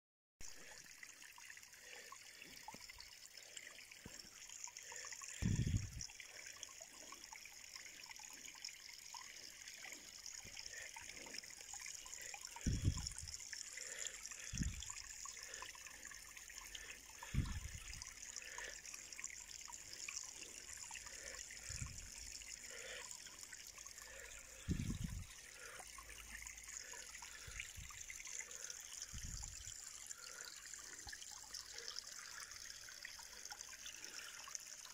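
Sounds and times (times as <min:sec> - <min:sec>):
water trickling and splashing: 0:00.4 - 0:34.9.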